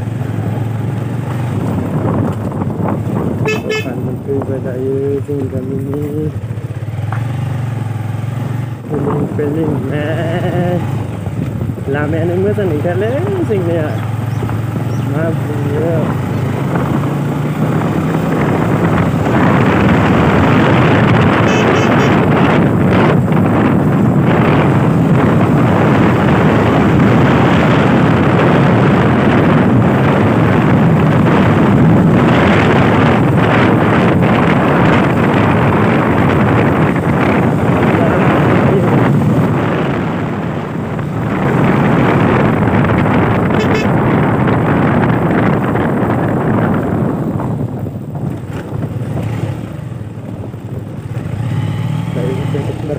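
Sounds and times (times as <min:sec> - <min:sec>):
motorbike engine running: 0:00.0 - 0:52.9
wind noise on microphone: 0:00.0 - 0:52.9.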